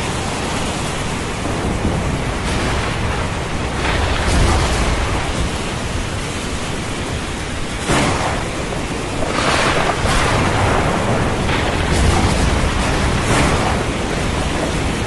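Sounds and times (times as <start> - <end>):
low thunder rumble: 0.0 - 15.0
ocean surf: 0.0 - 15.0
rain: 0.0 - 15.0.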